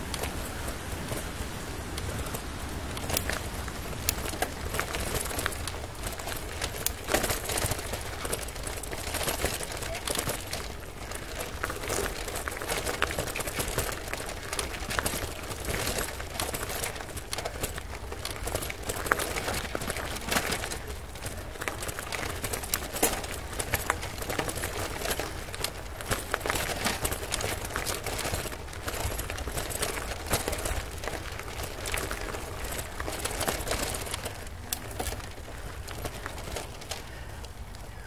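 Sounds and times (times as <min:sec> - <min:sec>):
bicycle tyres crunching on trail: 0:00.0 - 0:38.0
bike rattling: 0:00.0 - 0:38.0.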